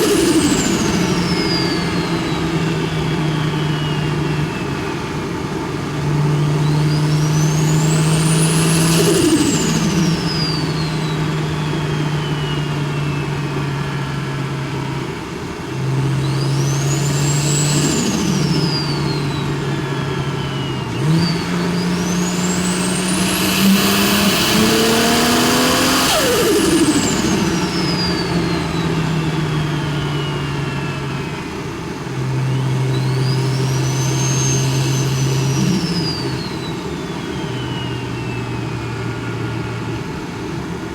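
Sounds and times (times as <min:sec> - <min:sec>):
engine pulling hard: 0:00.0 - 0:40.9
turbo whine: 0:00.0 - 0:40.9.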